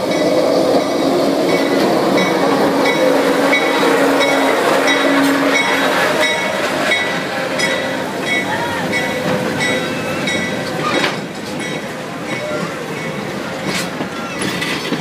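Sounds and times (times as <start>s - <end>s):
locomotive engine running: 0.0s - 15.0s.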